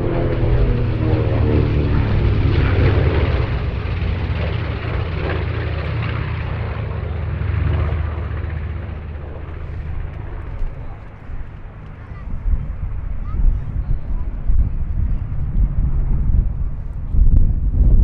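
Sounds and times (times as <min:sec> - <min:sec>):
propeller planes flying by: 0:00.0 - 0:18.0.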